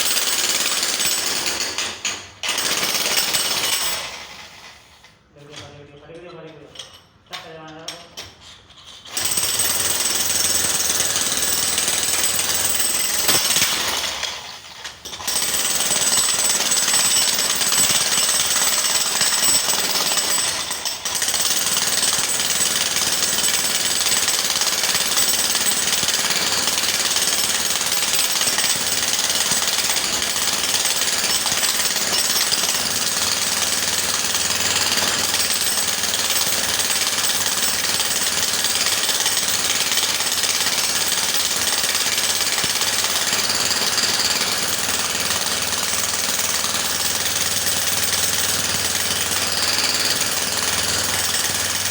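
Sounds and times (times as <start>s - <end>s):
electric jackhammer hammering: 0.0s - 4.3s, 9.2s - 51.9s.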